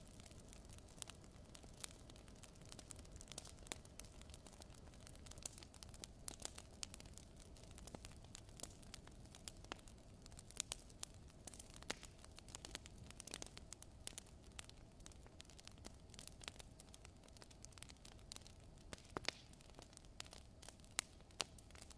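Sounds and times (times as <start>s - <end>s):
firewood crackling and popping: 0.0s - 21.9s.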